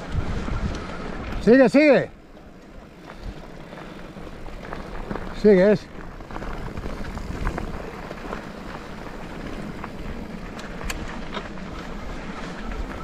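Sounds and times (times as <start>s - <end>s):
bike clicks and rattles: 0.0s - 13.0s
tyre and wind noise: 0.0s - 13.0s.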